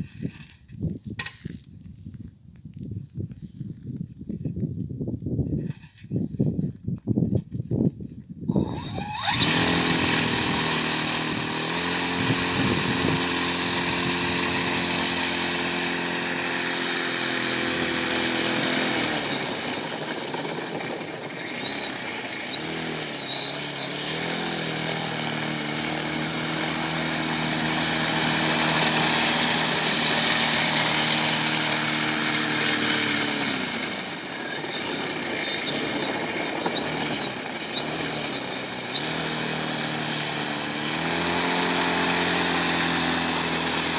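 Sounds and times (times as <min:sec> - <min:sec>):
propeller and motor drone with whine: 0:08.6 - 0:43.9.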